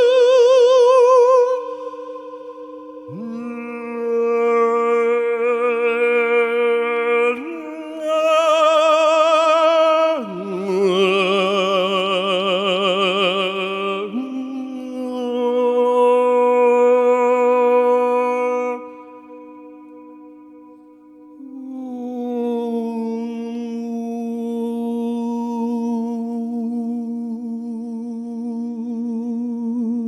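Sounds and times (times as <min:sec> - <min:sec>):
sung tones with vibrato: 0:00.0 - 0:24.9.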